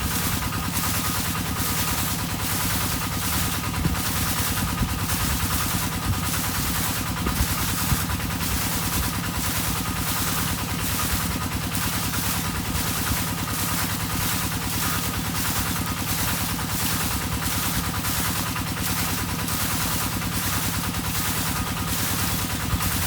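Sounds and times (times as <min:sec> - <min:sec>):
water pump engine running: 0:00.0 - 0:23.0.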